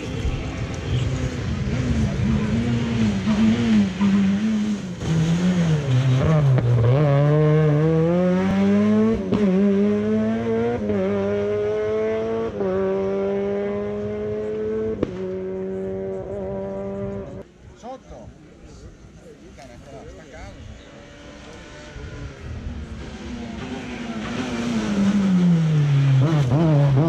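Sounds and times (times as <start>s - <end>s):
rally car engine revving: 0.0s - 17.4s, 20.7s - 27.0s.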